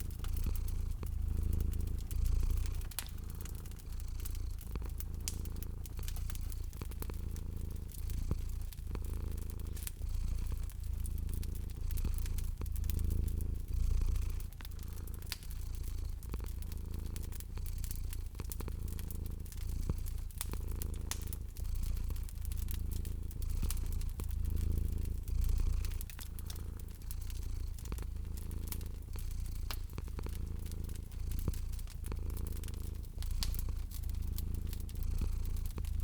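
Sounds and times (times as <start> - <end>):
cat purring: 0.0 - 36.0
wood fire crackling: 0.0 - 36.0.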